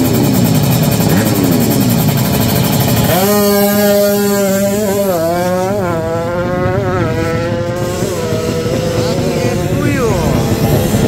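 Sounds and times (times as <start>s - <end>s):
motorcycle engine at full throttle: 0.0s - 11.0s.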